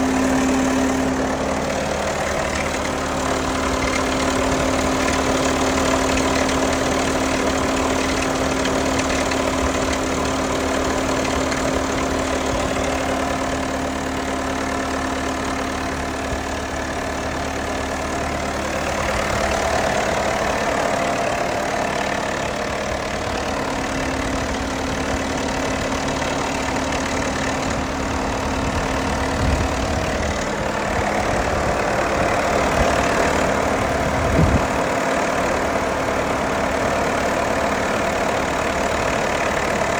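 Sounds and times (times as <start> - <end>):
car engine idling: 0.0 - 39.9
engine rattle: 0.0 - 39.9.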